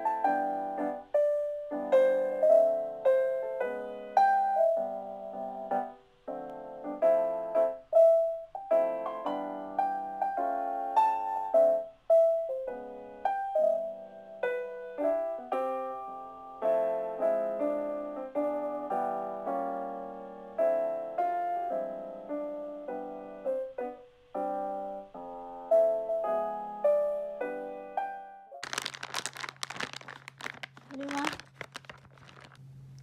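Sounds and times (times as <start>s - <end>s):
gentle piano melody: 0.0s - 29.2s.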